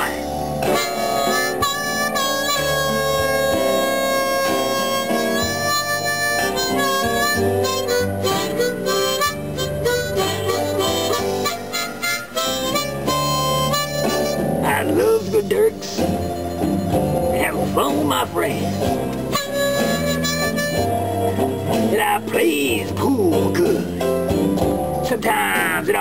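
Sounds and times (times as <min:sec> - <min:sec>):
blues backing track with bass: 0:00.0 - 0:26.0
blues harmonica: 0:00.0 - 0:26.0.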